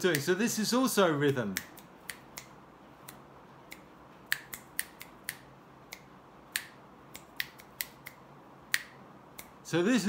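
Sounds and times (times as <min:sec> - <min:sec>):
finger snaps: 0:01.3 - 0:09.6.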